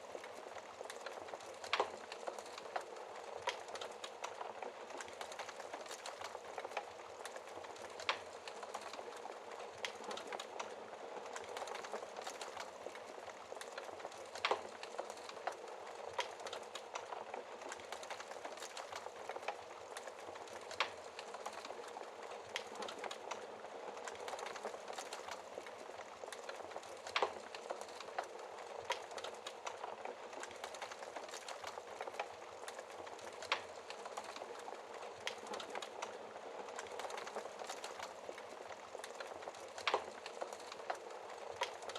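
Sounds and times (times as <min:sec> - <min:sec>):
fire popping: 0:00.0 - 0:41.9
wood fire crackling: 0:00.0 - 0:41.9.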